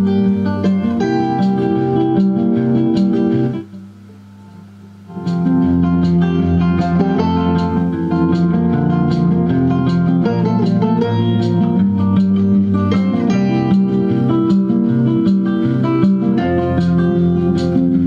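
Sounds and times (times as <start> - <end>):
guitar music through amplifier: 0.0 - 18.0.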